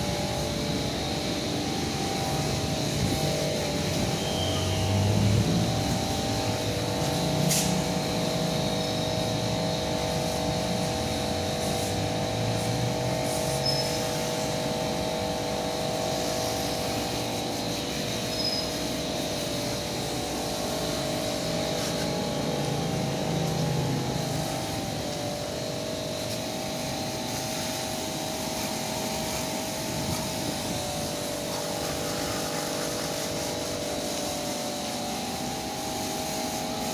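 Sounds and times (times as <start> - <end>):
steady machine hum: 0.0 - 13.4, 14.2 - 33.0.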